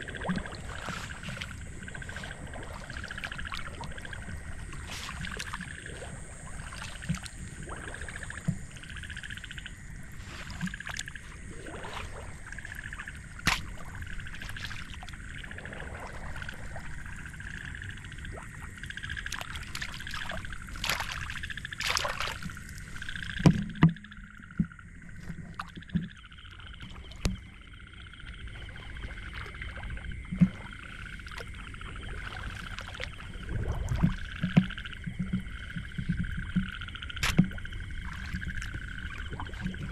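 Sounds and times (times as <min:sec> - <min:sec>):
frogs calling: 0:00.0 - 0:39.9
insects trilling: 0:00.0 - 0:39.9
water splashing: 0:00.0 - 0:39.9.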